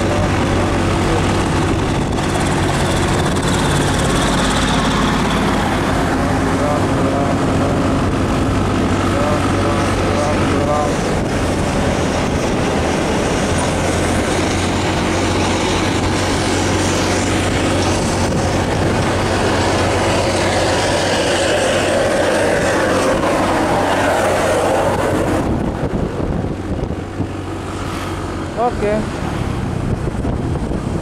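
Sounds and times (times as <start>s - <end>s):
motorcycle engine hum: 0.0s - 31.0s
road and wind noise: 0.0s - 31.0s.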